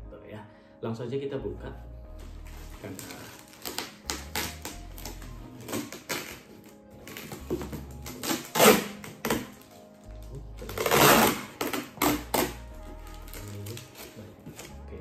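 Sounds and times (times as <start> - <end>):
background music: 0.0 - 15.0
cardboard and paper rustling: 2.2 - 14.9.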